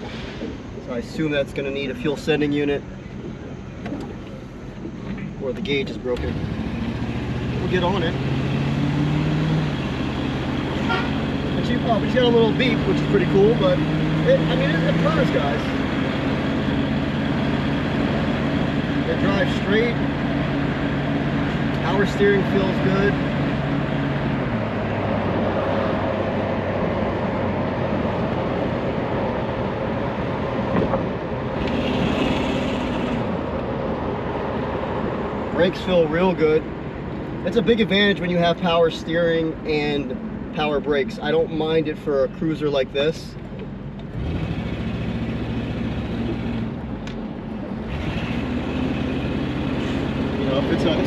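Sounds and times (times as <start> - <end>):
car engine hum: 0.0 - 51.0
road and wind noise: 0.0 - 51.0.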